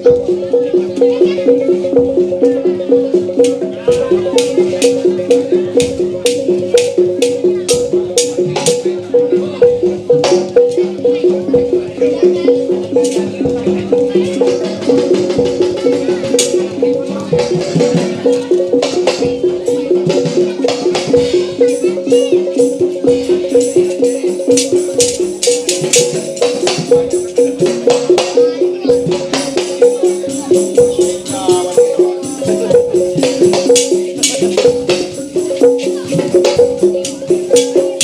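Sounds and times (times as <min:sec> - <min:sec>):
percussion music: 0:00.0 - 0:38.0.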